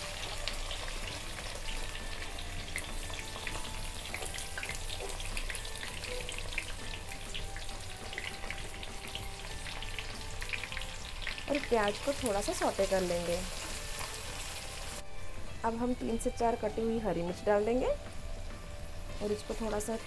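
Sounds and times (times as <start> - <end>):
onion sizzling in oil: 0.0 - 20.0.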